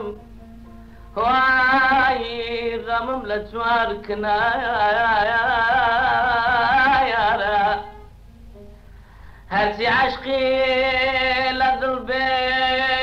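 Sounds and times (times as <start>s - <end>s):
person singing with vibrato: 0.0s - 8.7s, 9.5s - 13.0s.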